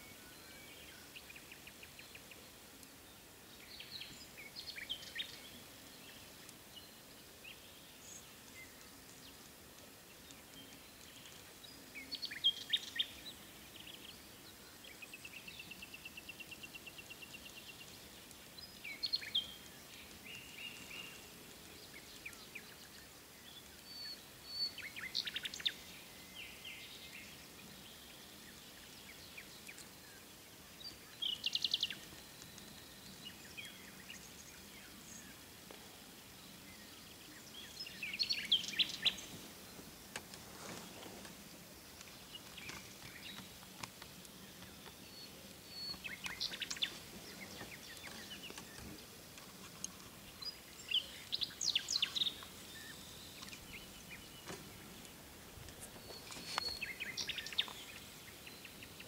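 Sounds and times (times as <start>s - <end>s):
faint steady hiss: 0.0s - 59.0s
songbirds chirping: 0.0s - 59.0s.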